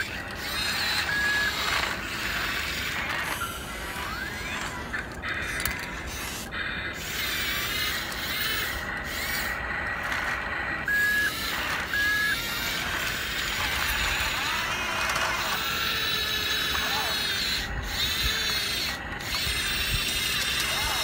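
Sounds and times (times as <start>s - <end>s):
toy motors and gears whirring: 0.0s - 21.0s.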